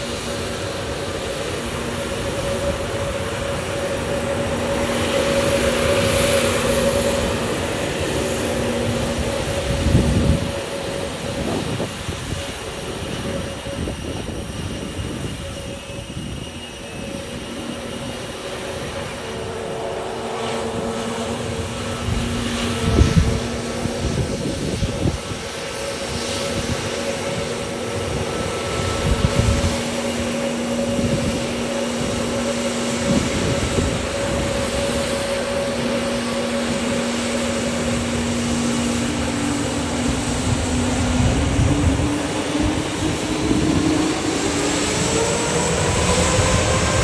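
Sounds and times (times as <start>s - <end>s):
airliner engines humming: 0.0s - 47.0s.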